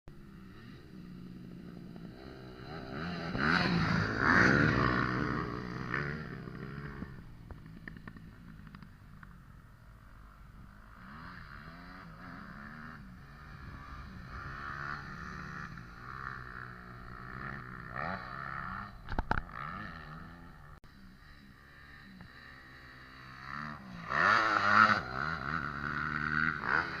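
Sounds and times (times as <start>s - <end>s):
motorcycle engine revving: 0.1s - 27.0s.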